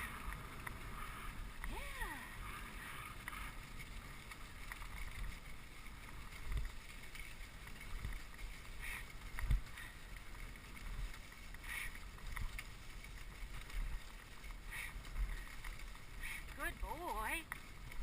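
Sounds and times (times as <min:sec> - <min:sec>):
sled runners hissing on snow: 0:00.0 - 0:17.0.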